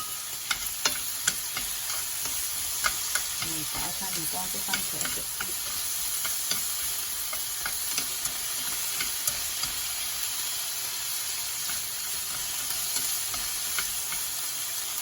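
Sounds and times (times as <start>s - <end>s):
tomatoes sizzling in oil: 0.0s - 15.0s.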